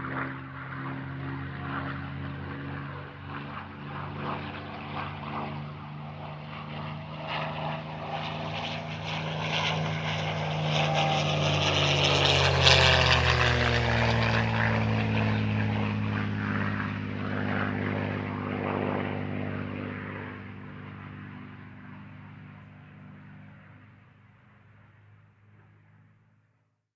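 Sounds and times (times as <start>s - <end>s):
propeller plane engine drone: 0.0s - 26.8s.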